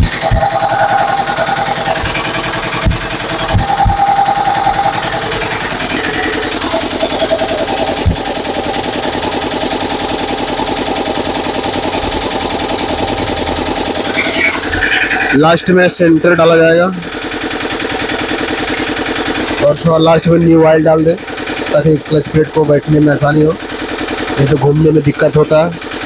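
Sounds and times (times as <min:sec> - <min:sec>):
motorcycle engine idling: 0:00.0 - 0:15.4, 0:16.4 - 0:25.1.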